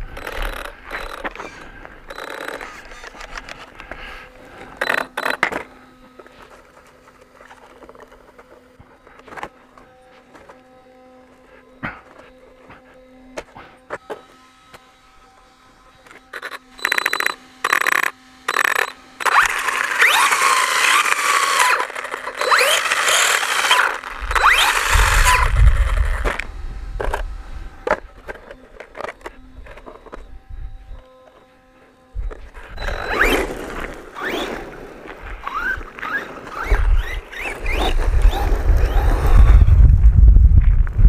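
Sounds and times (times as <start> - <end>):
electric motor revving and whining: 0.0 - 41.0.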